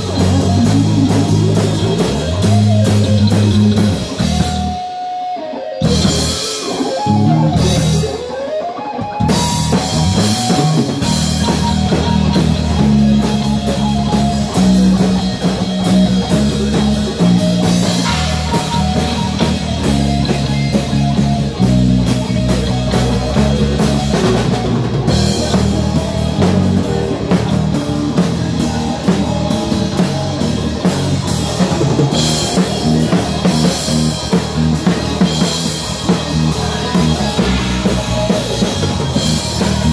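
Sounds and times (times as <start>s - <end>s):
fast drumming with crashing cymbals: 0.0s - 5.1s, 5.8s - 39.9s
bass guitar: 0.0s - 39.9s
distorted electric guitar: 0.0s - 39.9s.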